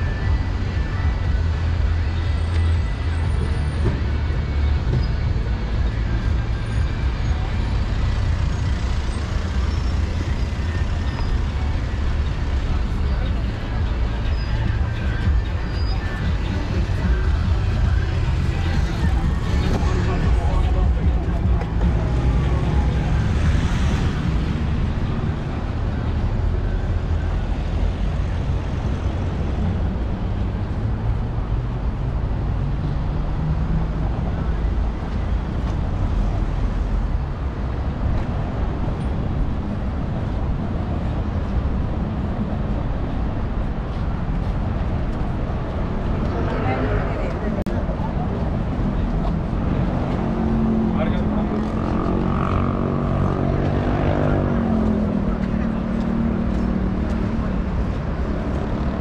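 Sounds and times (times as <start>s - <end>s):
road traffic passing: 0.0s - 59.0s
cars driving past: 1.1s - 59.0s.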